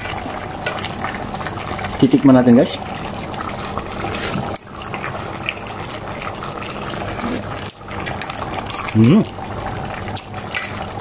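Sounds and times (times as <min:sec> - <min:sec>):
sauce bubbling in pot: 0:00.0 - 0:11.0.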